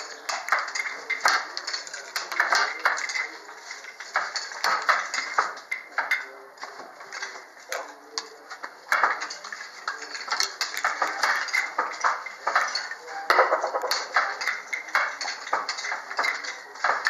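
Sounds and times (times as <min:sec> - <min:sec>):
wooden loom clacking: 0:00.0 - 0:17.0.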